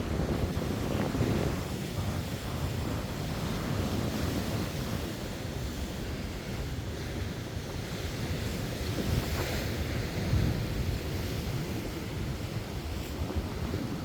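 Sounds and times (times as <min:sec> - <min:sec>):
heavy sea surf: 0:00.0 - 0:14.0
wind buffeting microphone: 0:00.0 - 0:14.0.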